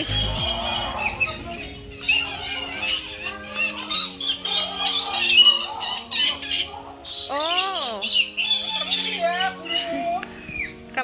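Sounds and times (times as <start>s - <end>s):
parrots squawking: 0.0s - 10.8s
soft background music: 0.0s - 11.0s.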